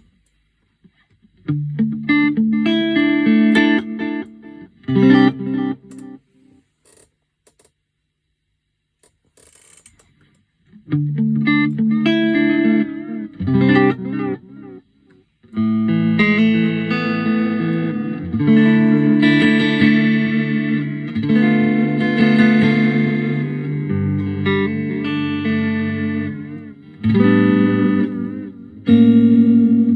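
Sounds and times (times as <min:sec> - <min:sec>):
electric guitar: 0:01.4 - 0:06.2, 0:10.7 - 0:29.9.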